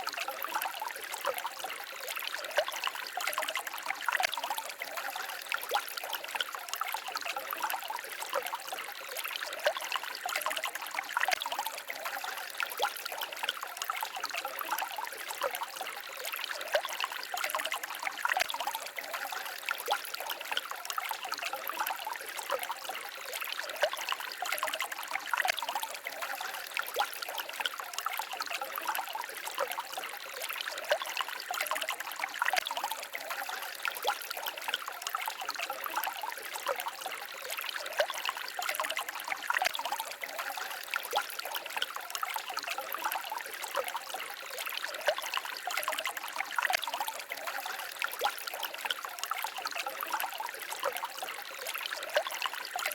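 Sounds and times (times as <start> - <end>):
small stream babbling: 0.0 - 52.9.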